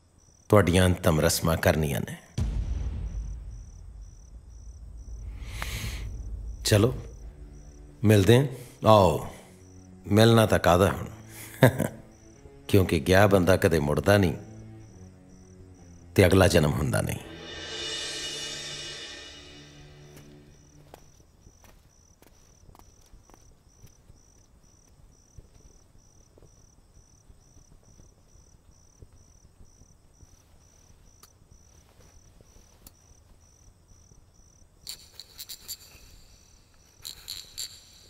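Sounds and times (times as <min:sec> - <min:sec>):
cricket chirping: 0:00.0 - 0:38.0.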